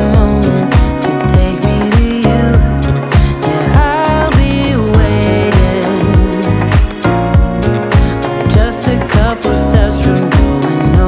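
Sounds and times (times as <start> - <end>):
person singing: 0.0 - 11.0
pop music with drum beat: 0.0 - 11.0.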